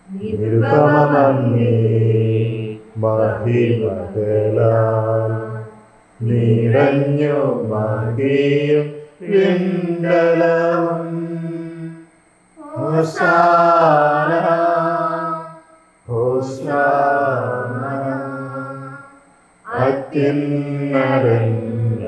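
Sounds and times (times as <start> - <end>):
man chanting: 0.1 - 12.0, 12.6 - 22.0.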